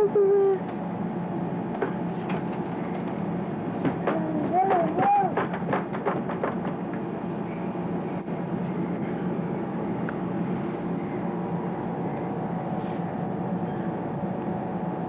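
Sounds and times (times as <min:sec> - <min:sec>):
steady background rumble: 0:00.0 - 0:15.0.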